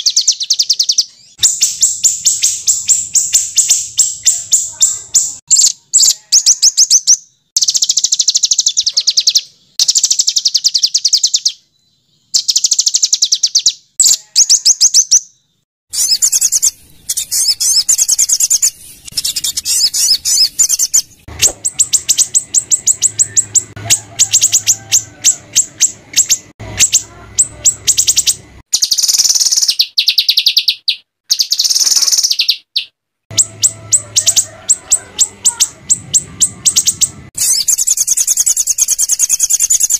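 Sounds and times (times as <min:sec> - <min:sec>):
songbirds harsh rapid chirps: 0:00.0 - 0:39.9.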